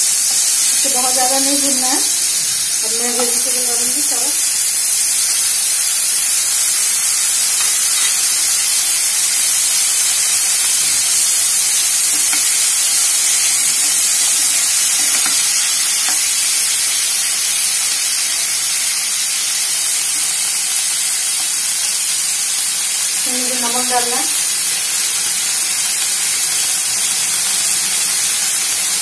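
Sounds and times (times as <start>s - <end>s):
vegetables sizzling in hot oil: 0.0s - 29.0s.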